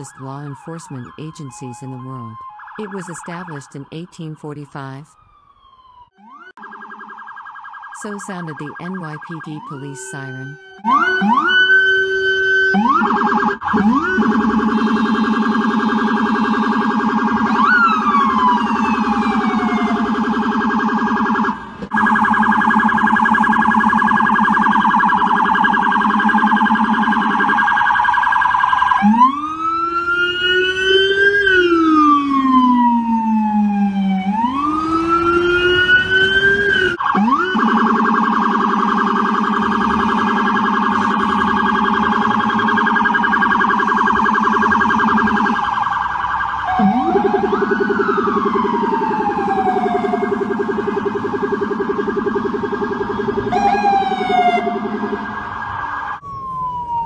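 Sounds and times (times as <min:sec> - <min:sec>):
police siren: 0:00.0 - 0:57.0.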